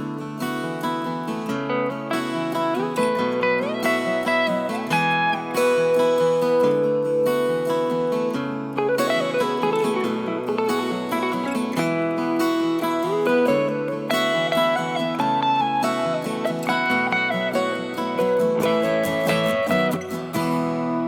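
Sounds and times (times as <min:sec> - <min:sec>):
acoustic guitar melody: 0:00.0 - 0:21.0.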